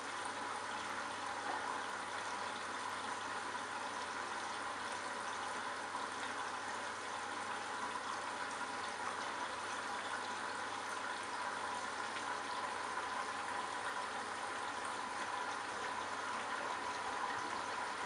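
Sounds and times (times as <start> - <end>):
washing machine running water: 0.0 - 18.0.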